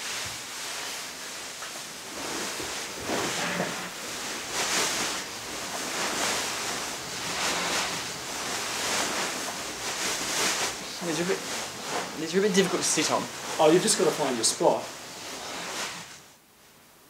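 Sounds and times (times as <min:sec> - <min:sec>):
beanbags rustling: 0:00.5 - 0:16.2.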